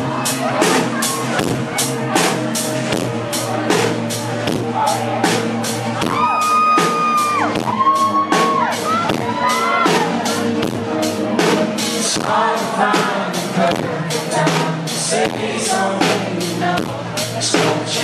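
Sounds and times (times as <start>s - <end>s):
live band playing: 0.0s - 18.0s
steady drum beat: 0.0s - 18.0s.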